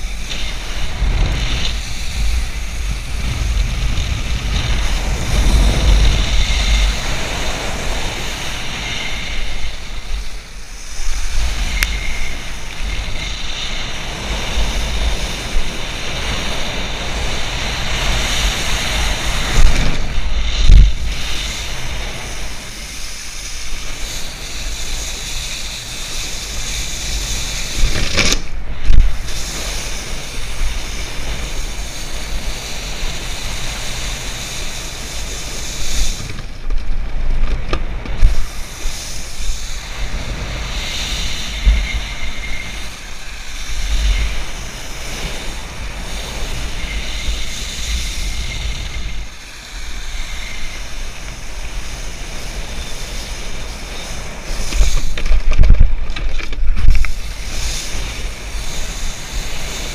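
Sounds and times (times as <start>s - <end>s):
water spray hissing and splashing: 0.0s - 59.9s
wind buffeting microphone: 0.0s - 59.9s.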